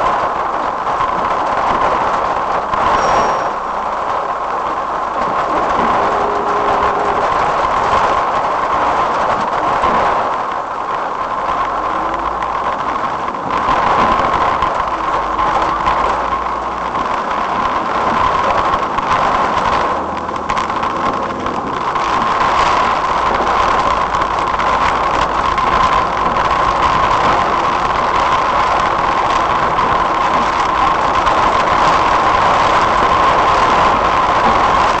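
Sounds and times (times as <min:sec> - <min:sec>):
raindrops tapping windscreen: 0:00.0 - 0:35.0
road and engine noise: 0:00.0 - 0:35.0.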